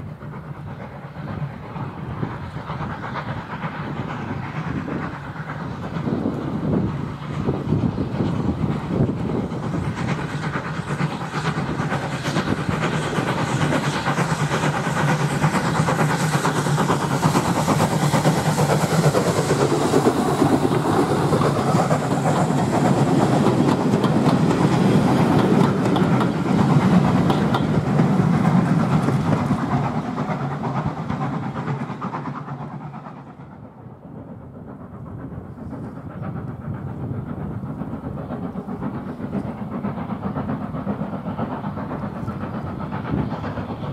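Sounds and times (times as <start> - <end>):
steam locomotive working: 0.0 - 43.9
train wheels clicking over rail joints: 0.0 - 43.9.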